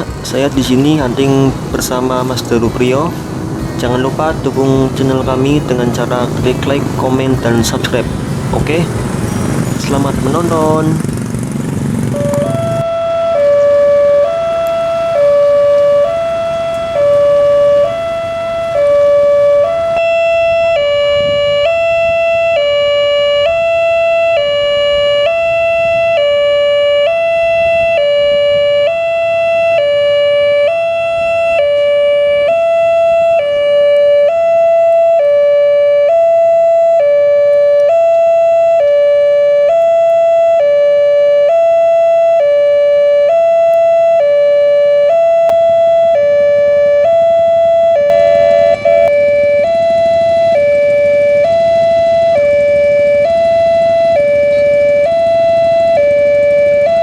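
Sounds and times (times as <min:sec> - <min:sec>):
level crossing two-tone warning siren: 0:00.0 - 0:08.8, 0:09.6 - 0:57.0
passing road traffic: 0:00.0 - 0:57.0.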